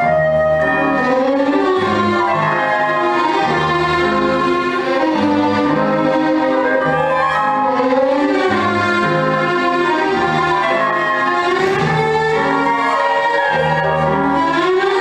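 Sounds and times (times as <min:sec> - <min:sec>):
orchestral strings sustained notes: 0:00.0 - 0:15.0.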